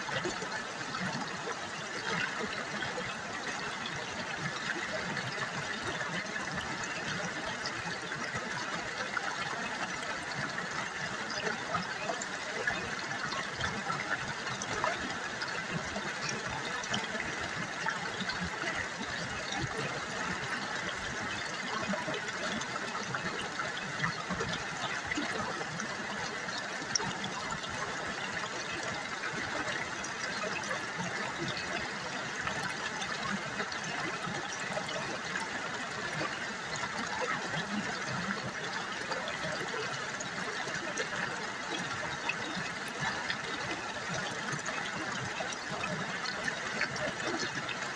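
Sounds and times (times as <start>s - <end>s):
river water babbling over stones: 0.0s - 47.9s.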